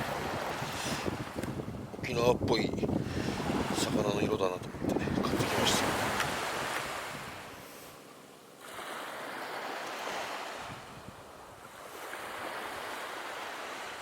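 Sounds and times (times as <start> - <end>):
sea waves washing onto beach: 0.0 - 14.0.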